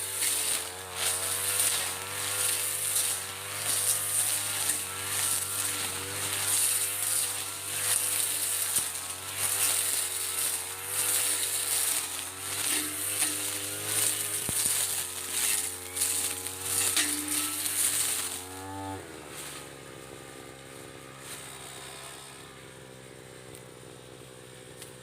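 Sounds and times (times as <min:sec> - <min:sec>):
blade cutting undergrowth hiss: 0:00.0 - 0:25.0
brush cutter engine: 0:00.0 - 0:25.0.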